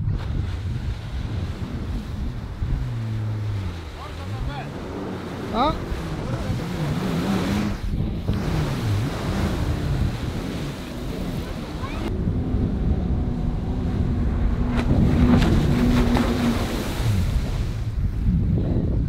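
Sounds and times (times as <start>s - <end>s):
jet ski engine: 0.0s - 19.0s
wind buffeting microphone: 0.0s - 19.0s.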